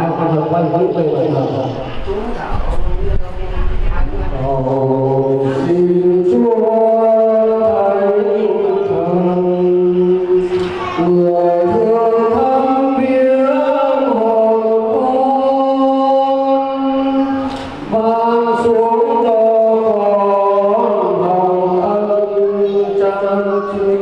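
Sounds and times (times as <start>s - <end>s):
voices chanting a hymn: 4.3s - 24.0s.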